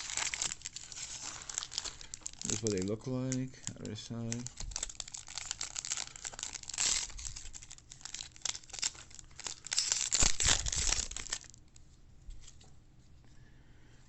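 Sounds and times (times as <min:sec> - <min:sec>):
packaging tearing and crinkling: 0:00.0 - 0:11.6.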